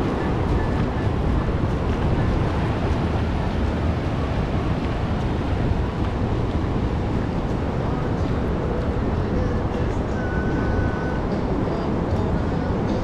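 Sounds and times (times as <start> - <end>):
small surf waves on sand: 0.0 - 13.0
wind noise on microphone: 0.0 - 13.0.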